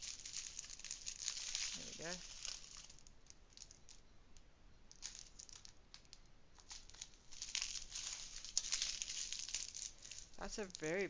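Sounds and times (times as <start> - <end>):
plastic bags crinkling: 0.0 - 4.0, 4.9 - 11.0.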